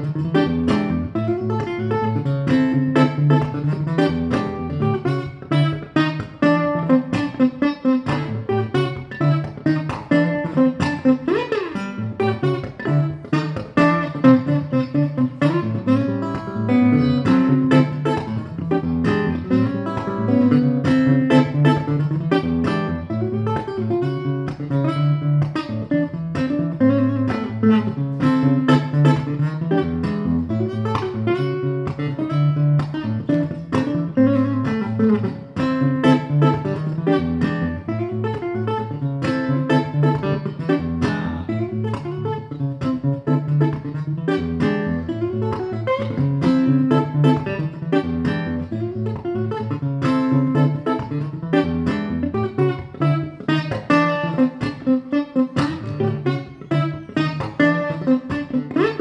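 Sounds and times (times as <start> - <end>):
fingerstyle acoustic guitar: 0.0 - 59.0.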